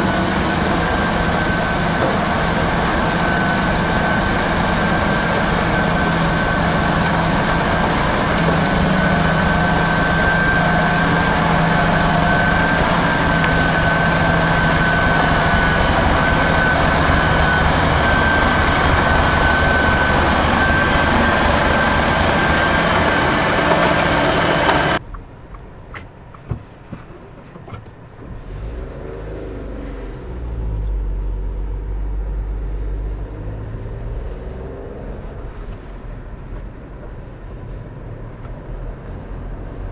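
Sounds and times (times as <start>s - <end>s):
snow blower noise with high whine: 0.0s - 25.0s, 28.6s - 37.0s
low engine rumble: 0.0s - 39.9s.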